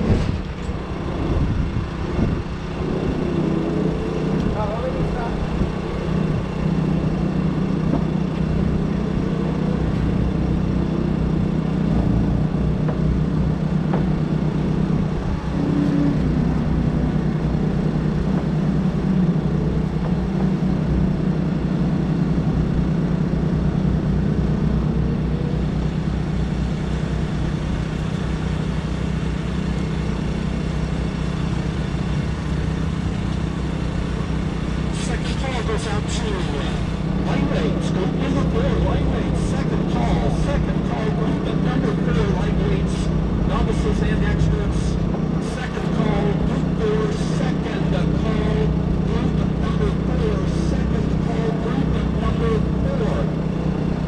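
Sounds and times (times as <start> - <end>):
engine idling: 0.0 - 54.0
faint distant engines: 0.0 - 54.0.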